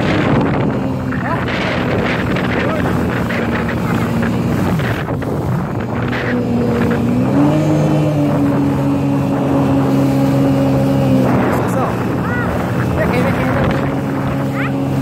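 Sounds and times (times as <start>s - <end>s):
jet ski engine running: 0.0s - 15.0s
wind buffeting microphone: 0.0s - 15.0s.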